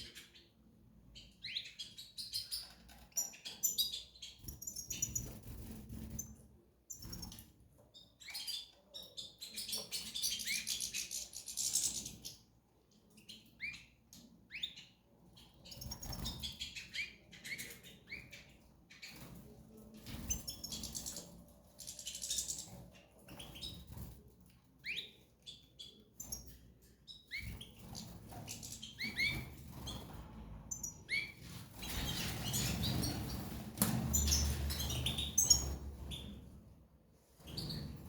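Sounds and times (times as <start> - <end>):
cage birds chirping: 0.0 - 38.0.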